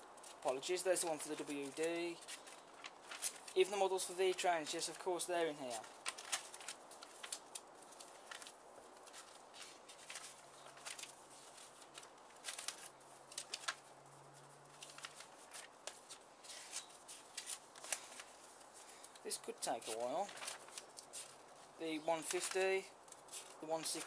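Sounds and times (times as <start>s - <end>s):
paper pages rustling: 0.1s - 24.0s.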